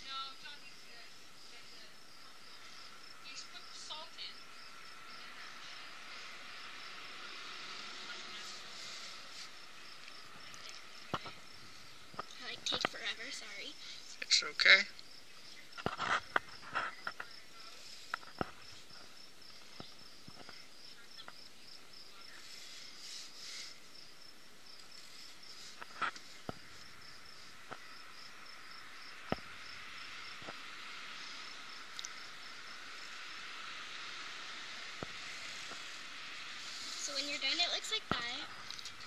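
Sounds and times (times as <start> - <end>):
insect chirping: 0.0 - 39.0.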